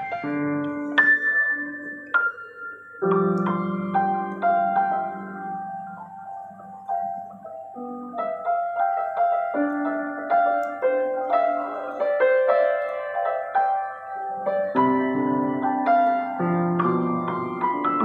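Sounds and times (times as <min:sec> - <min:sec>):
grand piano playing melancholy piece: 0:00.0 - 0:18.0.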